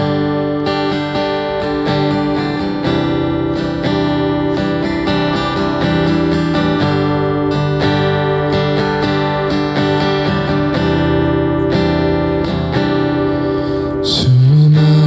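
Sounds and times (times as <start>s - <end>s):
guitar strumming: 0.0s - 15.0s.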